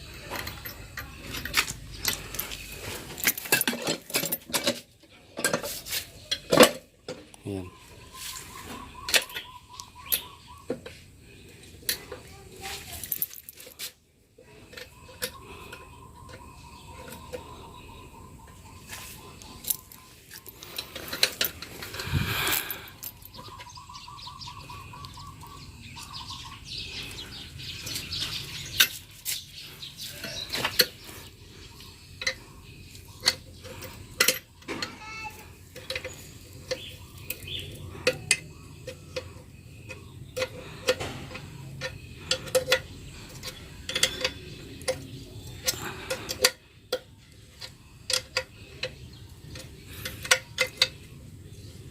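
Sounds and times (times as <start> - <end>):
metallic clinks and knocks of tools: 0.0 - 6.8, 11.9 - 17.4, 18.9 - 23.8, 26.0 - 31.3, 32.1 - 51.1.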